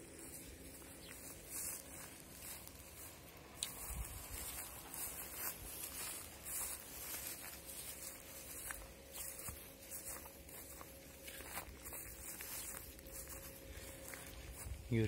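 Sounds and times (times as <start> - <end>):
sheep grazing rustling and crunching: 0.0 - 15.0.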